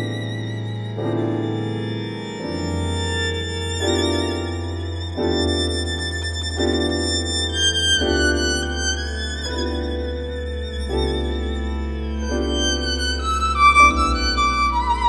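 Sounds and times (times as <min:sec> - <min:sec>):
chord accompaniment: 0:00.0 - 0:15.0
held low bass note: 0:00.0 - 0:15.0
violin melody with vibrato: 0:00.0 - 0:15.0.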